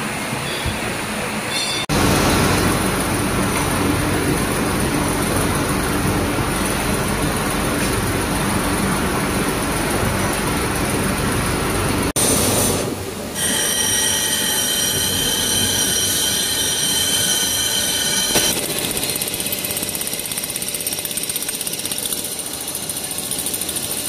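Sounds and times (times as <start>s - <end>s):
machinery rushing din: 1.8s - 21.9s.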